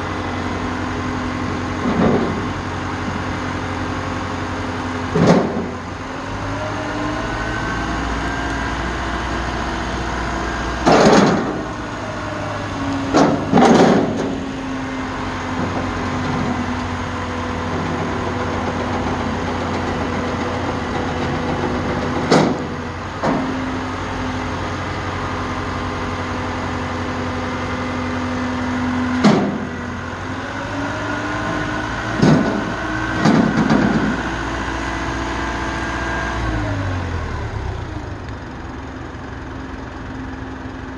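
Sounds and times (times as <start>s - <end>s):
hydraulic pump hum and whine: 0.0s - 40.9s.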